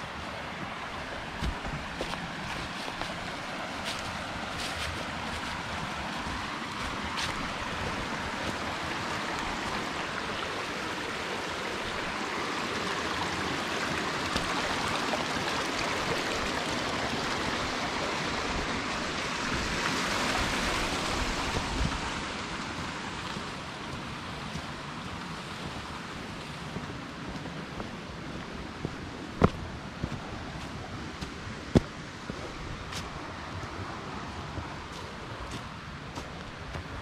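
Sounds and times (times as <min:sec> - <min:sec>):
water rushing over rocks: 0:00.0 - 0:37.0.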